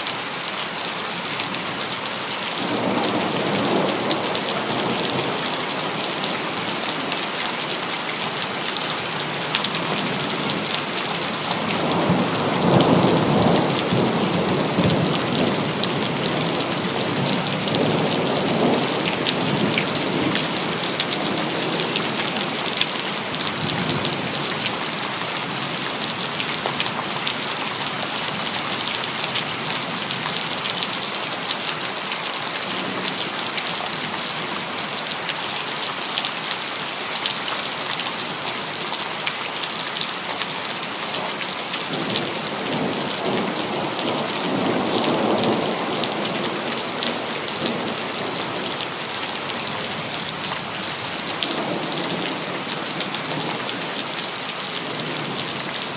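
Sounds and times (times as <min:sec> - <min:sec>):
rain pattering on hard surfaces: 0:00.0 - 0:55.9.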